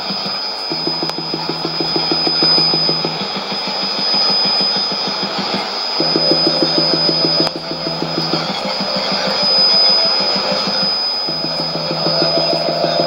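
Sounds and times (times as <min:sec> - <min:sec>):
rapid pulsing buzz: 0:00.0 - 0:13.0
steady high whistle: 0:00.0 - 0:13.0.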